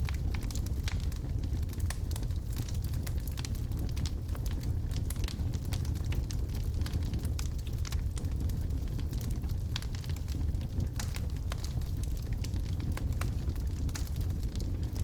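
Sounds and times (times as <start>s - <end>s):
fire crackling and popping: 0.0s - 15.0s
fireplace flames rumbling: 0.0s - 15.0s.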